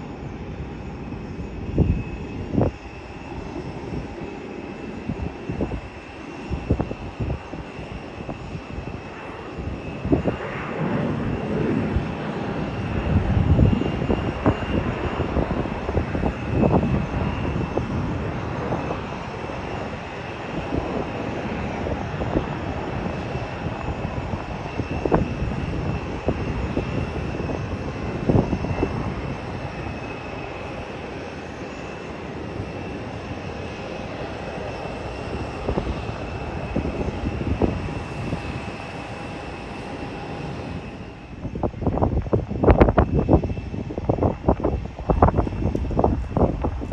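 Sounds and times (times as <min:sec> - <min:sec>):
jet engines whining: 0:00.0 - 0:46.9
wind buffeting microphone: 0:00.0 - 0:46.9.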